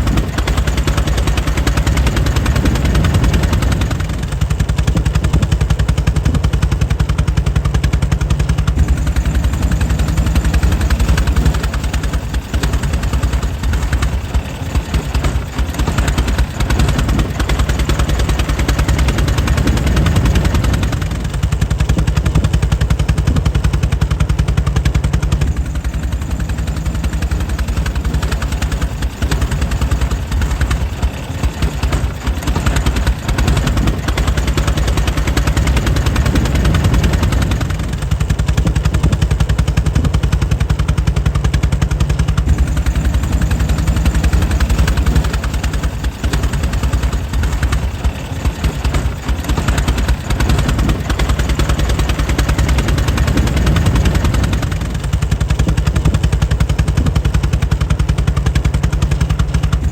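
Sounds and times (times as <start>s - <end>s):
air-cooled engine running: 0.0s - 59.9s.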